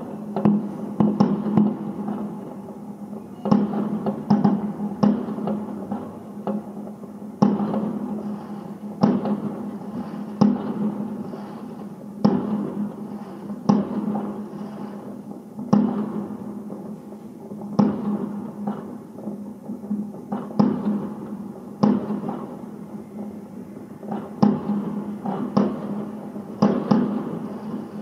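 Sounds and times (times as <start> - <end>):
fireworks bangs with echo: 0.0 - 28.0.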